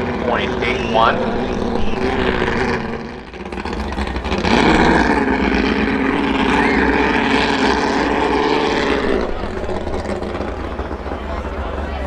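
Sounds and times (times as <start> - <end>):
boat engine revving: 0.0 - 12.0.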